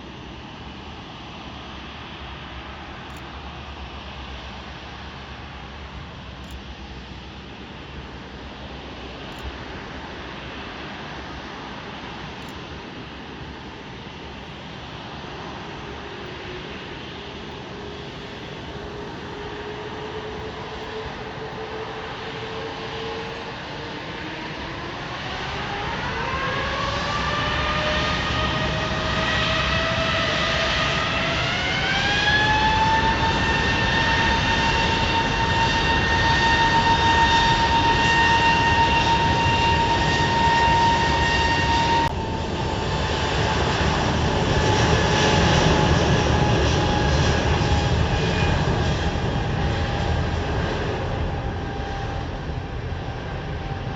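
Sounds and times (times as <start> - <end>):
jet engines spooling up: 0.1 - 53.9.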